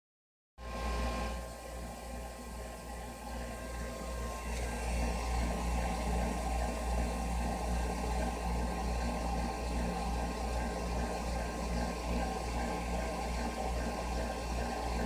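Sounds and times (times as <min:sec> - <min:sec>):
furnace humming and rumbling: 0:00.6 - 0:15.0.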